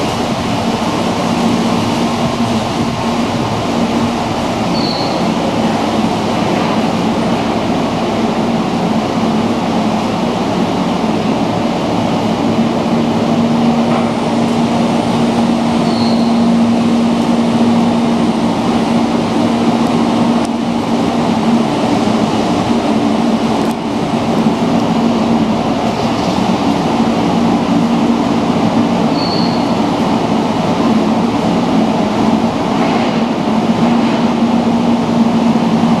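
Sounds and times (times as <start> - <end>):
ferry engine drone: 0.0 - 36.0
water rushing noise: 0.0 - 36.0.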